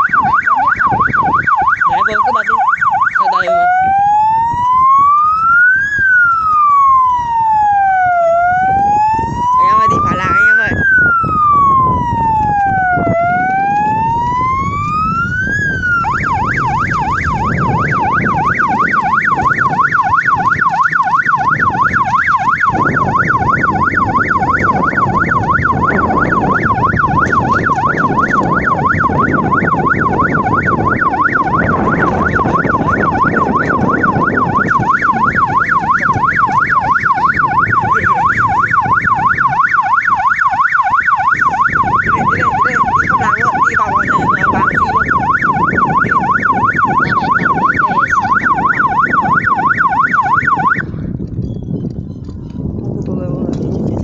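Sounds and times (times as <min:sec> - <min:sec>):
electronic siren wailing and yelping: 0:00.0 - 0:51.0.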